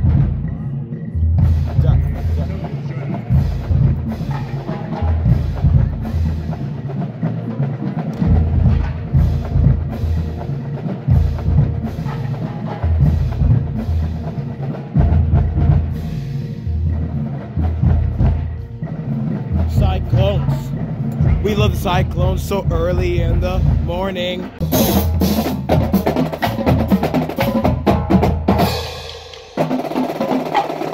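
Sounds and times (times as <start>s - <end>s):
marching band drums beating: 0.0s - 0.5s, 1.4s - 30.9s.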